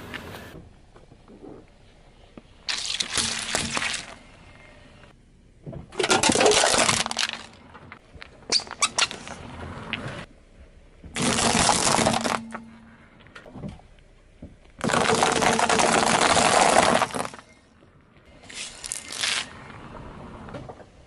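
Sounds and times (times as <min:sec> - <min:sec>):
car tyre crushing objects: 0:02.4 - 0:10.3, 0:11.0 - 0:13.8, 0:14.4 - 0:20.8.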